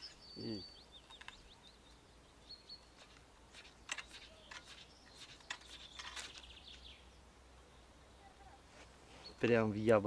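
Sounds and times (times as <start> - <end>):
faint songbird chirps: 0.0 - 10.0.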